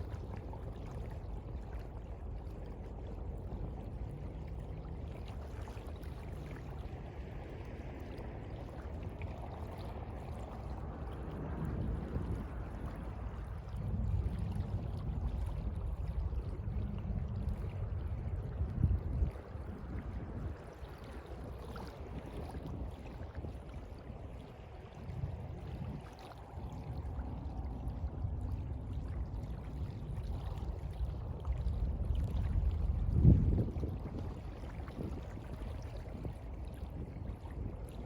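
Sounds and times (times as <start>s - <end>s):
sea waves washing: 2.4s - 38.0s.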